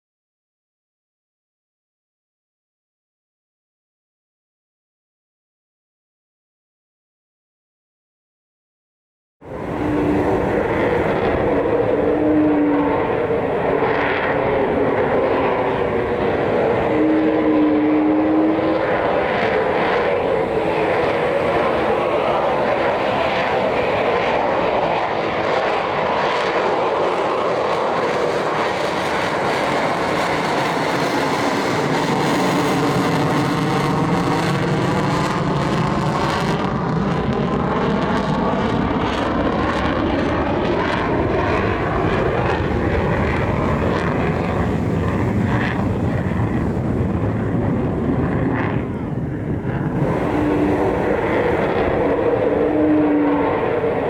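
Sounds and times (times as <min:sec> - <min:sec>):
jet engine roaring past: 0:09.4 - 0:54.0.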